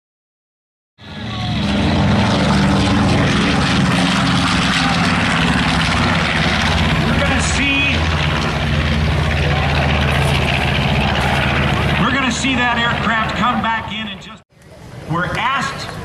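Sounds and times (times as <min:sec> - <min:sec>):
propeller plane engine running: 0:01.0 - 0:16.0.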